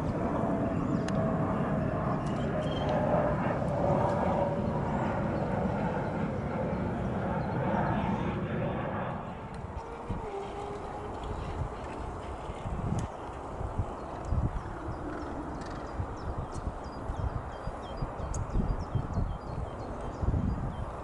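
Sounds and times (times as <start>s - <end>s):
distant engine drone: 0.0s - 21.0s
steady low rumble: 0.0s - 21.0s.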